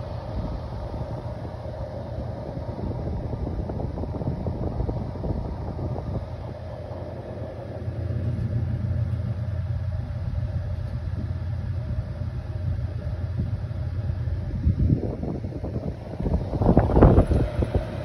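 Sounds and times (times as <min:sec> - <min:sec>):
air rumble on microphone: 0:00.0 - 0:18.0.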